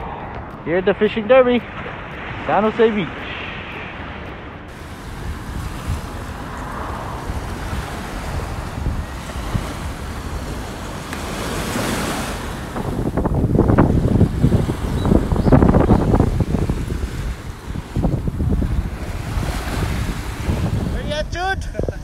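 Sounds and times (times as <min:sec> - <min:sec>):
small waves breaking on sand: 0:00.0 - 0:21.2
wind buffeting microphone: 0:00.0 - 0:22.0.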